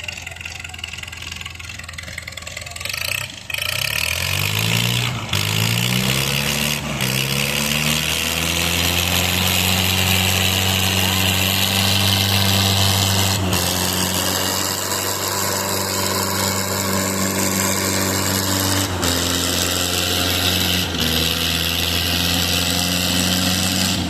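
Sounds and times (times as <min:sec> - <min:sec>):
tractor diesel engines straining: 0:00.0 - 0:24.0.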